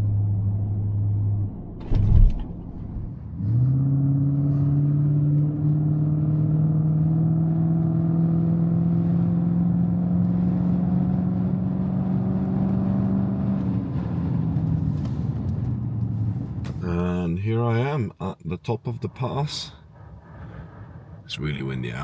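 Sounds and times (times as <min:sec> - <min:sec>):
vehicle engine climbing: 0:00.0 - 0:17.9.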